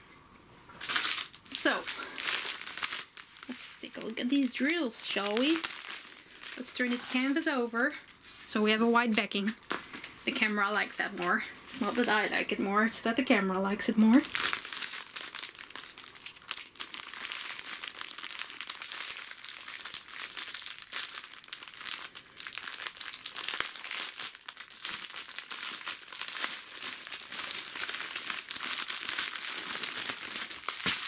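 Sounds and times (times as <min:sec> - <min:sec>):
plastic bags crinkling: 0:00.8 - 0:12.6, 0:14.0 - 0:31.0.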